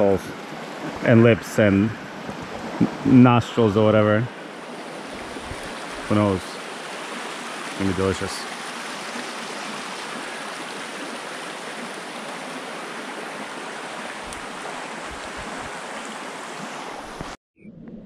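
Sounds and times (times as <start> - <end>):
creek water flowing over stones: 0.0 - 17.4.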